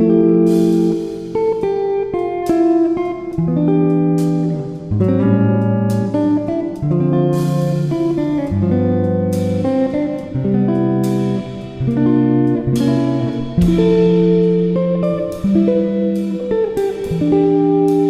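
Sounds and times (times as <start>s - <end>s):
guitar playing sustained chords: 0.0s - 18.0s.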